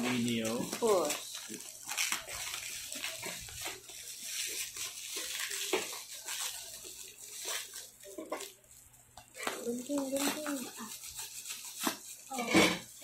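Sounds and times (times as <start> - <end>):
package tearing: 0.0 - 8.6, 9.4 - 13.0
plastic pouch and bubble wrap crinkling: 0.0 - 13.0.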